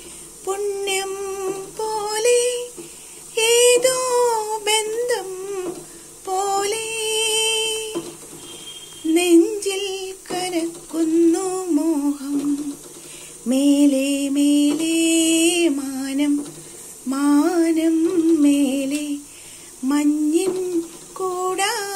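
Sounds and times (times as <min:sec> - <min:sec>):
woman singing with vibrato: 0:00.0 - 0:08.2, 0:09.0 - 0:12.8, 0:13.4 - 0:21.9.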